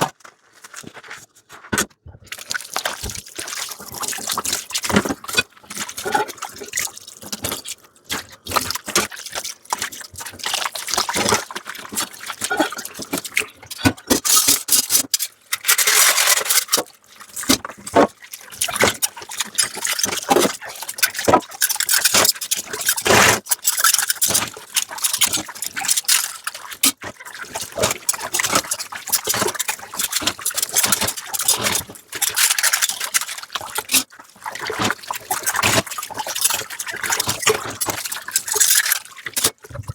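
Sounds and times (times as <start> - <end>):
water running and splashing: 2.3 - 13.8, 16.9 - 39.9.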